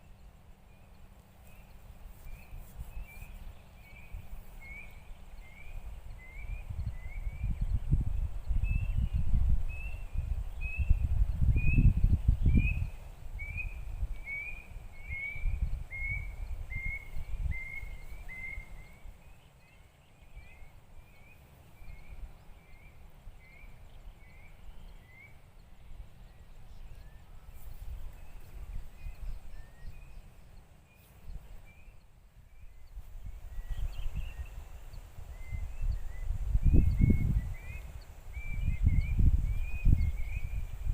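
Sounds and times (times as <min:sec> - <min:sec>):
bird chirping: 0:00.0 - 0:40.9
wind rumble on microphone: 0:00.0 - 0:40.9.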